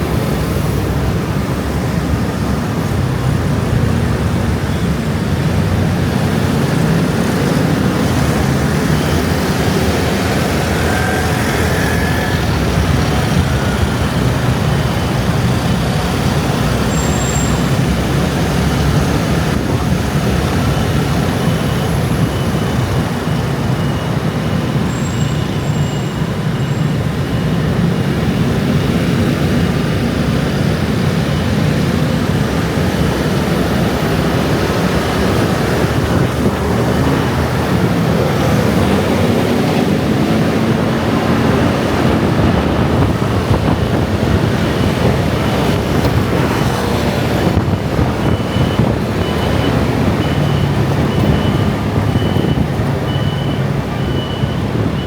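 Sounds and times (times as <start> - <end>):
heavy traffic rumble: 0.0 - 55.0.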